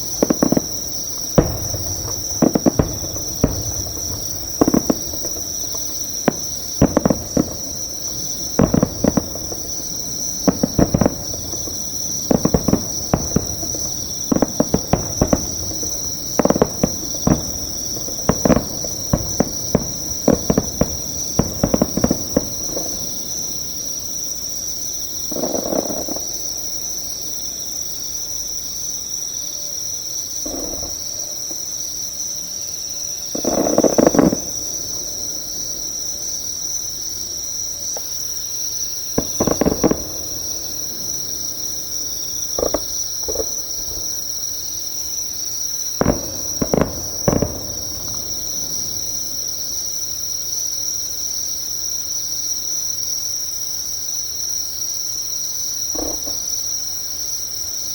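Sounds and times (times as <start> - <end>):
fireworks booms: 0.0 - 27.4, 30.4 - 31.8, 33.2 - 52.0, 55.8 - 56.8
distant fireworks crackling: 0.0 - 28.0, 30.3 - 32.0, 33.2 - 53.0, 55.5 - 57.3
high insect trill: 0.0 - 57.9.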